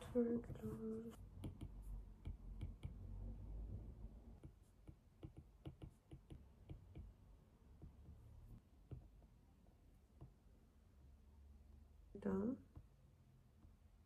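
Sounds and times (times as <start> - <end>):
quiet room hum: 0.0 - 14.0.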